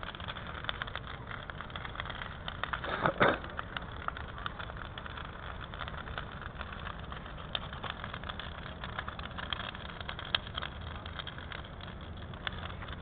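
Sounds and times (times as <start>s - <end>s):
bonfire rumbling: 0.0s - 13.0s
fire crackling and popping: 0.0s - 13.0s.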